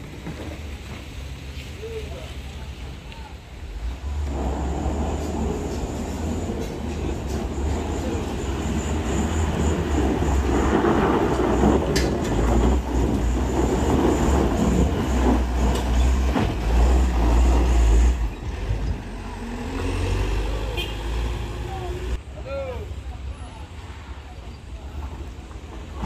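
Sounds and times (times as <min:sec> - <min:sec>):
large vehicle engine rumbling: 0:00.0 - 0:26.0.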